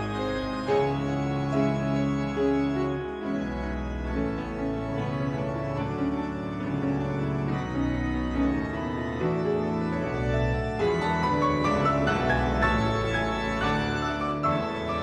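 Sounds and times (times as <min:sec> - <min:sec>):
grand piano playing: 0:00.0 - 0:15.0
pipe organ playing chords: 0:00.0 - 0:15.0.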